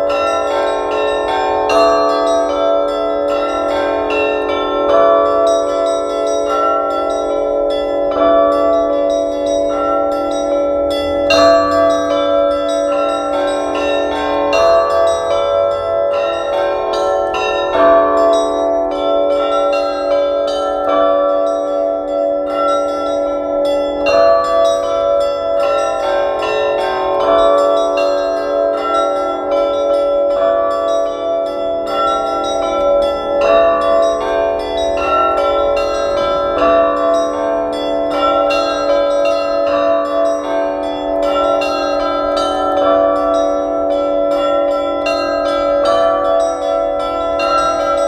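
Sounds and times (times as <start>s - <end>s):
heavy church bell strokes: 0.0s - 48.0s.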